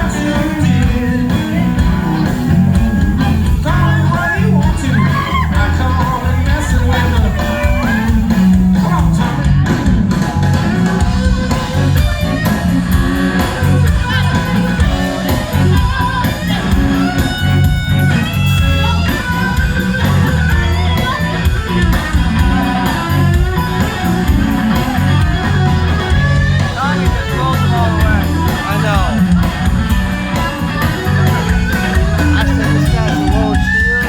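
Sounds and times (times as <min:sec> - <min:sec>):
bass line: 0:00.0 - 0:34.0
electric guitar solo: 0:00.0 - 0:34.0.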